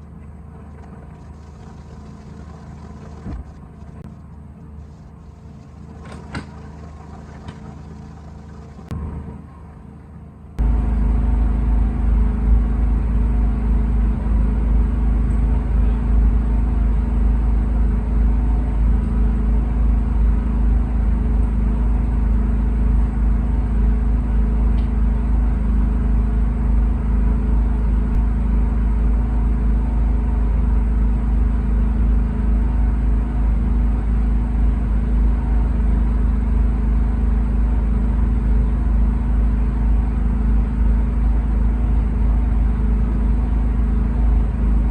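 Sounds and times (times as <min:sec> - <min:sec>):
motor vehicle engine rumbling: 0:00.0 - 0:44.9.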